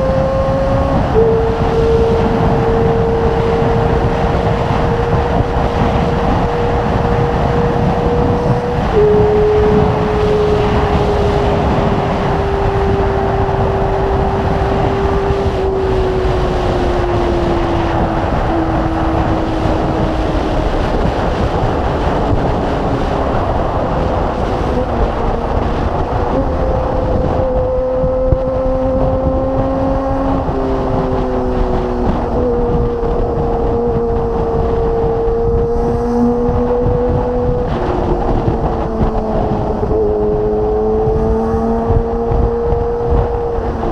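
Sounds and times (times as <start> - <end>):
motorcycle engine at high revs: 0.0 - 43.9
wind rush on microphone: 0.0 - 43.9.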